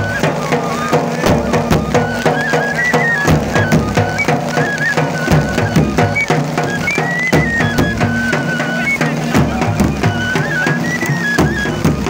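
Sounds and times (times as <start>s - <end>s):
high folk melody: 0.0s - 12.0s
steady drumbeat: 0.0s - 12.0s.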